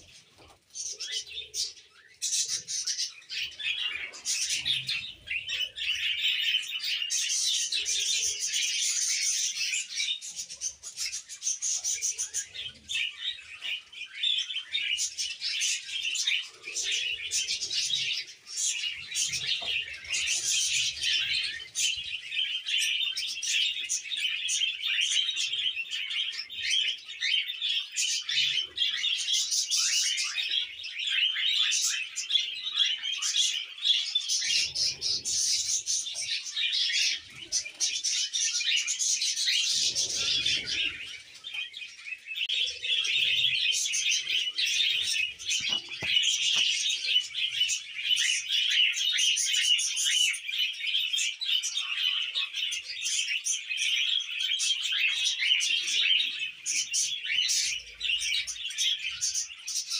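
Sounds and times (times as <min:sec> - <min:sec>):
budgerigars chirping: 0:00.8 - 0:59.9.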